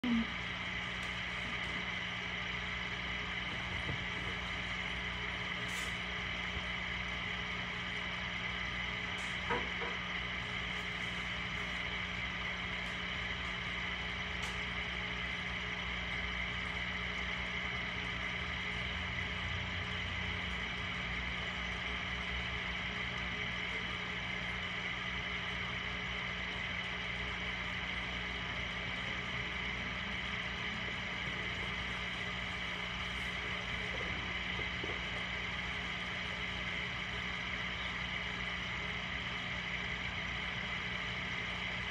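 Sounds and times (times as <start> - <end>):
machine hum: 0.0 - 41.9.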